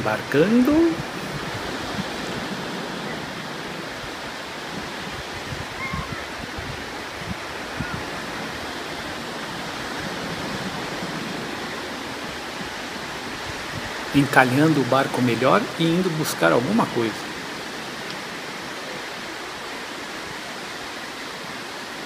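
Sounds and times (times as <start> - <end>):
surf breaking on a beach: 0.0 - 22.0.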